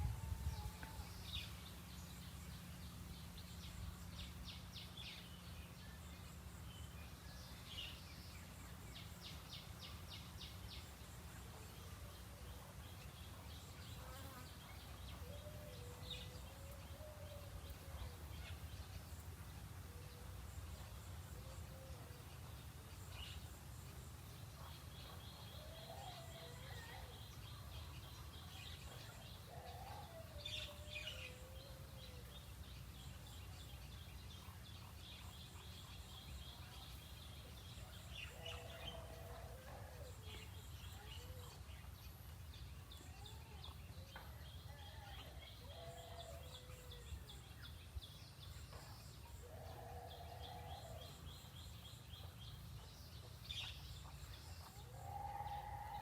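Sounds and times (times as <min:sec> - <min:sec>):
birds chirping trills: 0:00.0 - 0:56.0.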